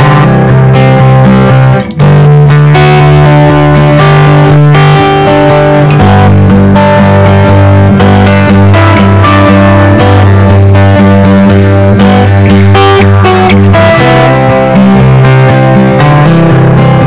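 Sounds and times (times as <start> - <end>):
guitar-led music with bass: 0.0 - 17.0.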